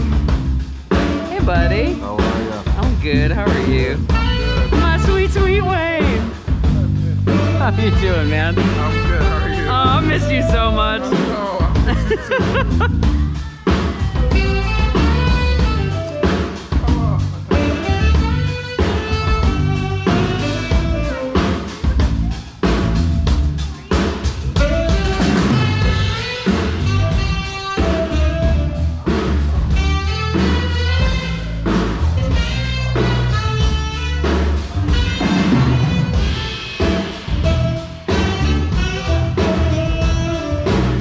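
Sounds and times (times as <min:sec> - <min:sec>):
band music: 0:00.0 - 0:41.0
drum kit steady beat: 0:00.0 - 0:41.0
strong bass line: 0:00.0 - 0:41.0.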